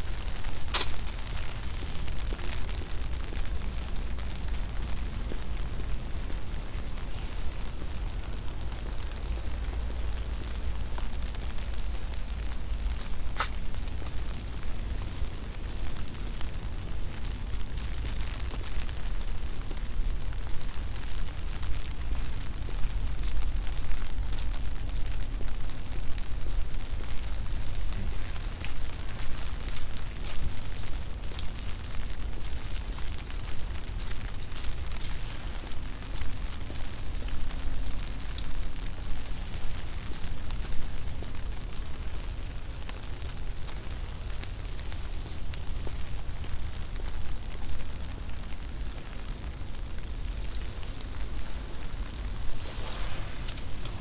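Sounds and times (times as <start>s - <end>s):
heavy low rumble: 0.0s - 54.0s
rain hissing on street: 0.0s - 54.0s.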